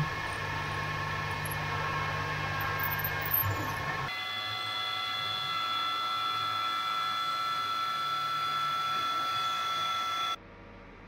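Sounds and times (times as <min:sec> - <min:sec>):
milling machine cutting metal: 0:00.0 - 0:10.4
quiet machine running: 0:00.0 - 0:11.0.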